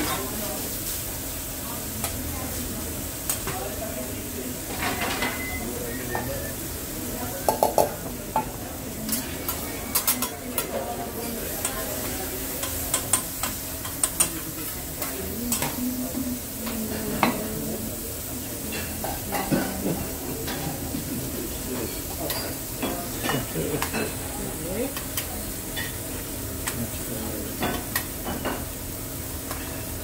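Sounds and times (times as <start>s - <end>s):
food sizzling on a griddle: 0.0s - 30.0s.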